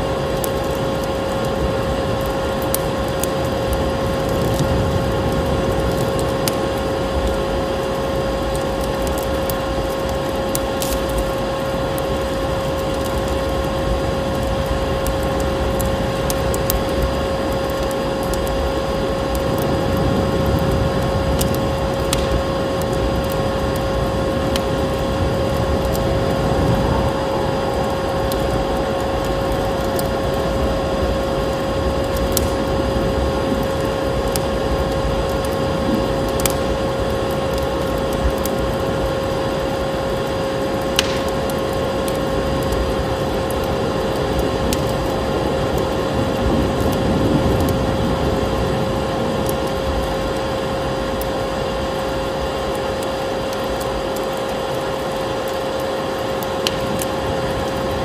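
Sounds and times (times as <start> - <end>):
fireplace crackling: 0.0 - 58.0
snowstorm wind: 0.0 - 58.0.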